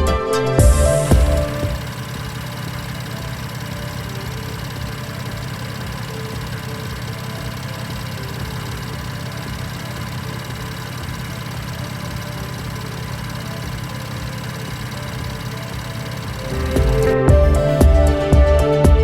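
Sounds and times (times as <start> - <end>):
car engine idling: 0.1 - 19.0.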